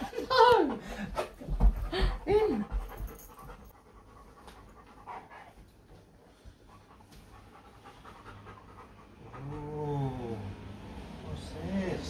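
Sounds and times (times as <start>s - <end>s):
dog panting: 0.9s - 10.8s.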